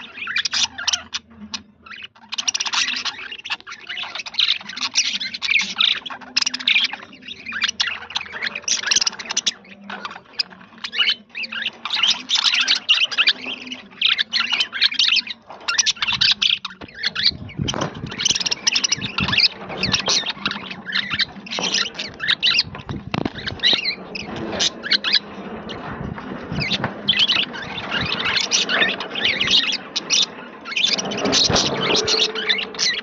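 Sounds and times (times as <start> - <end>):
budgerigars chattering and warbling: 0.0 - 33.0.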